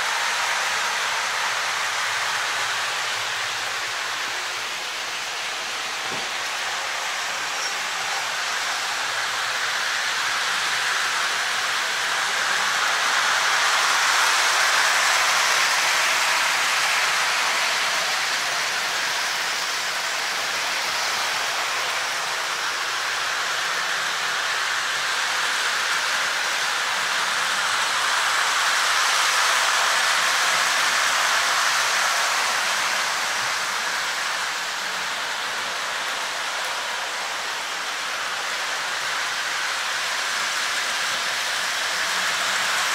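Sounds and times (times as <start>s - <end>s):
model train wheels rolling on rails: 0.0s - 42.9s.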